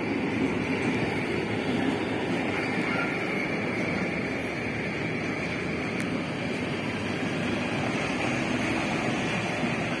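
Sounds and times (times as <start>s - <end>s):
freight train wheels rumbling on rails: 0.0s - 10.0s.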